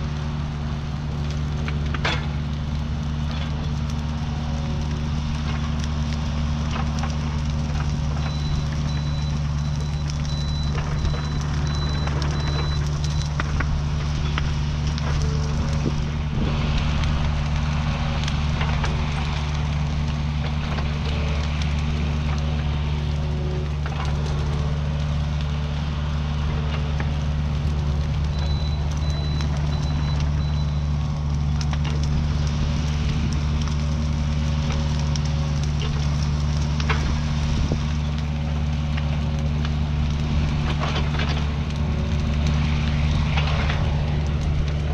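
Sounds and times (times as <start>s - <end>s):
burning brush crackling: 0.0s - 44.9s
excavator diesel engine running: 0.0s - 44.9s.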